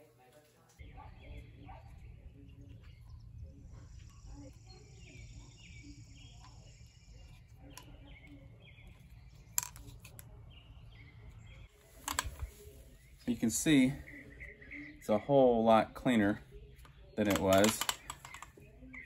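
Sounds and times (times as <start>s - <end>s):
birds chirping: 0.7s - 19.0s.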